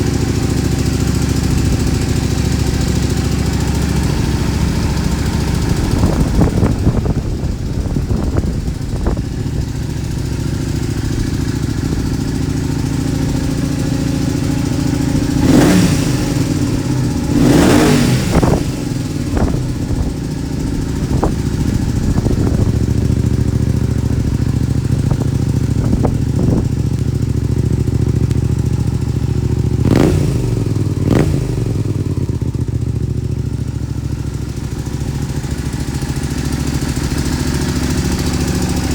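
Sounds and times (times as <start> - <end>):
motorcycle engine idling: 0.0 - 38.9
motorcycle throttle blips: 0.0 - 38.9.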